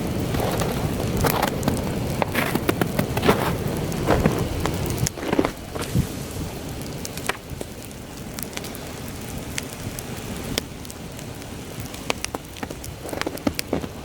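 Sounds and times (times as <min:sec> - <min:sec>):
campfire crackling and popping: 0:00.0 - 0:14.0
heavy wind rumbling: 0:00.0 - 0:14.0.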